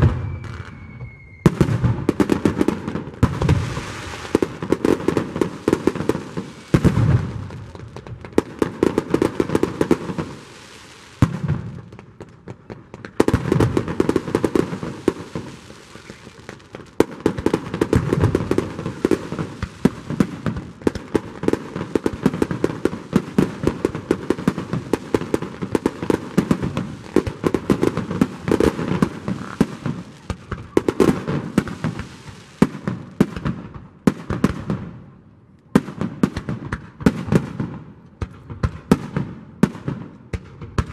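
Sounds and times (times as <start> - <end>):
firework crackling: 0.0 - 34.8.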